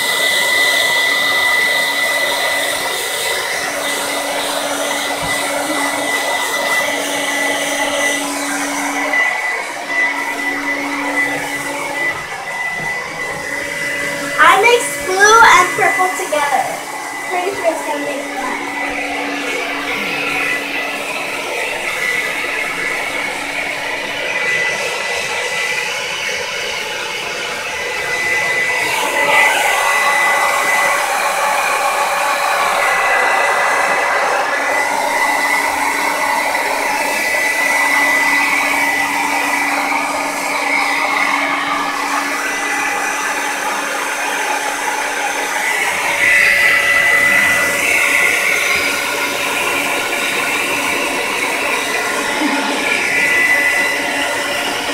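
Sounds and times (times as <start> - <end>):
blow dryer running: 0.0 - 54.9.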